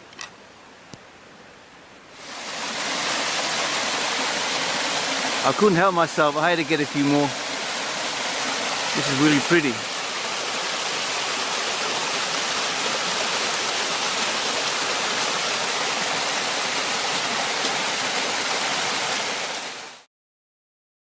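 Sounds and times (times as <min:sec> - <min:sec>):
stream water rushing: 0:02.1 - 0:20.1.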